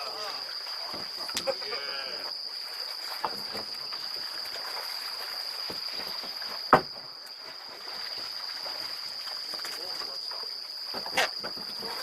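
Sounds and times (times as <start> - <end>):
river water moving around boat: 0.0 - 12.0.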